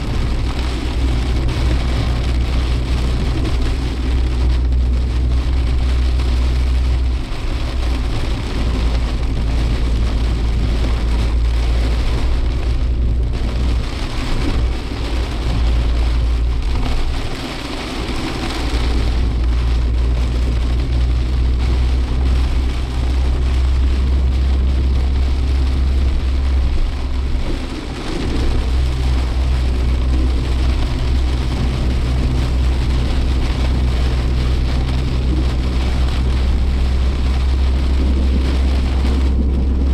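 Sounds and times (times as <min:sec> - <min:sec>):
car engine and road drone: 0:00.0 - 0:39.9
heavy rain hissing: 0:00.0 - 0:39.9.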